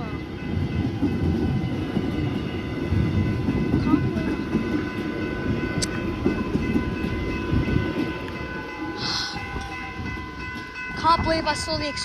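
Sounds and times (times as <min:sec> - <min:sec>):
electric train passing: 0:00.0 - 0:12.0
wind buffeting microphone: 0:00.0 - 0:12.0.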